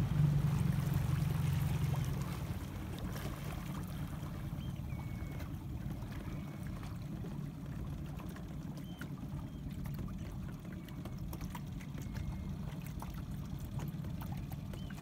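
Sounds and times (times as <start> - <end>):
boat engine rumbling: 0.0 - 15.0
water splashing against hull: 0.0 - 15.0.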